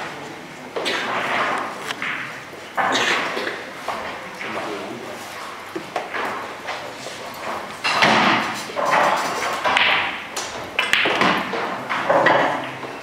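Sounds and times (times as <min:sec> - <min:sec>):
pool balls clicking: 0:00.0 - 0:13.0
cue striking ball: 0:00.8 - 0:04.7, 0:05.7 - 0:13.0.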